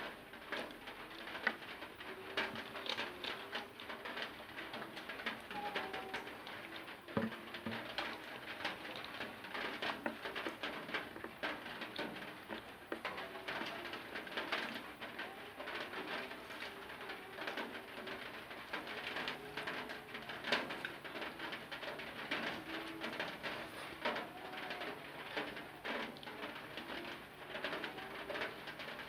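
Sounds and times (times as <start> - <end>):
low cooing: 1.0 - 29.0.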